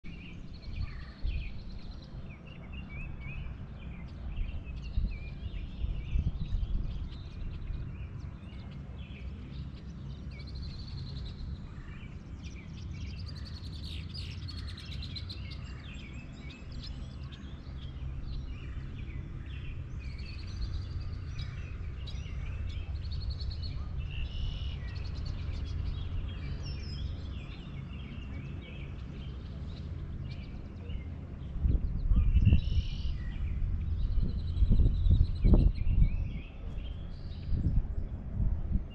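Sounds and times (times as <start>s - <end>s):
songbirds chirping and trilling: 0.0s - 38.9s
steady low rumble: 0.1s - 38.9s.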